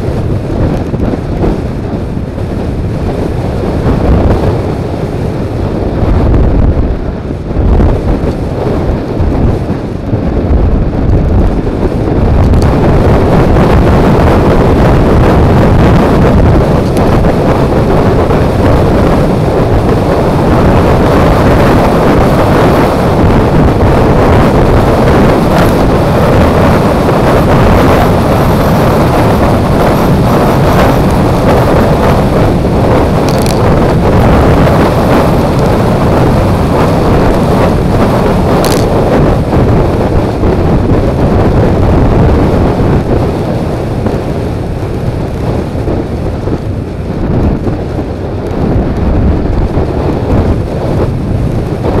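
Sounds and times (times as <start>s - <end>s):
scooter engine and road noise: 0.0s - 52.0s
wind buffeting microphone: 0.0s - 52.0s.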